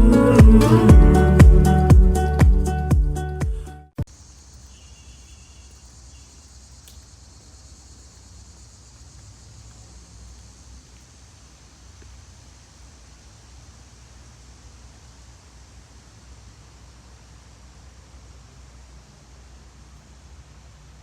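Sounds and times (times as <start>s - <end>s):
high-pitched insect chorus: 4.1s - 21.0s.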